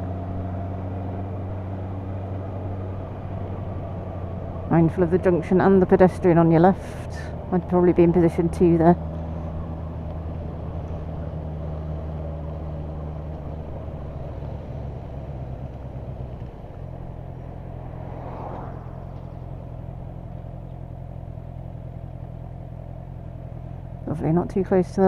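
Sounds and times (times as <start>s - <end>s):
motorcycle engine running: 0.0s - 25.0s
road noise: 0.0s - 25.0s.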